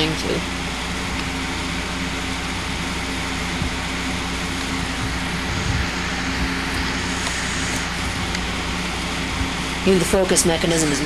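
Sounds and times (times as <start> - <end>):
low electrical hum: 0.0 - 11.0
steady hiss: 0.8 - 11.0.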